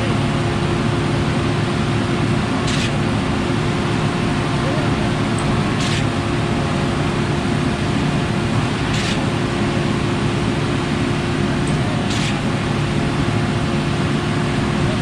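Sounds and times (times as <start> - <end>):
concrete pump truck engine drone: 0.0 - 15.0.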